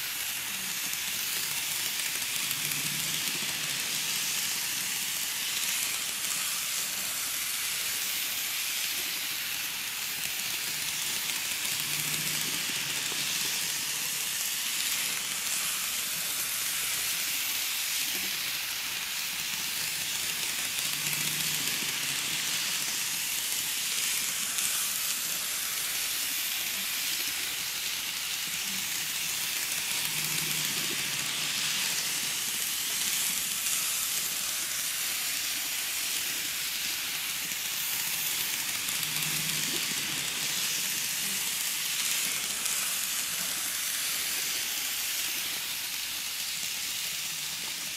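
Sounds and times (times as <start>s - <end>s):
model train rolling hiss: 0.0s - 47.9s.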